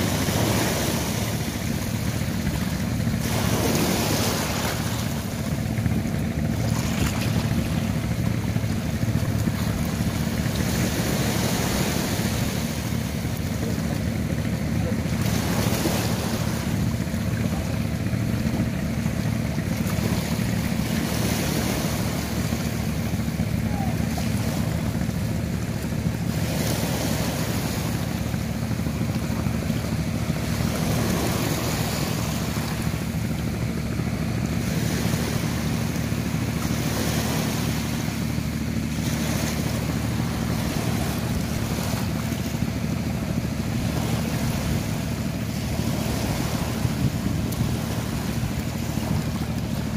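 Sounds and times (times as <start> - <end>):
small waves washing on shore: 0.0 - 49.9
steady low hum: 0.0 - 49.9.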